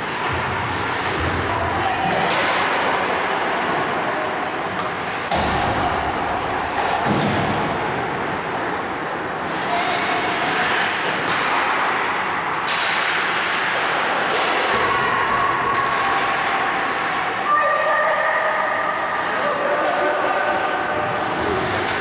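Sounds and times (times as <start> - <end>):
hockey rink noise: 0.0 - 22.0.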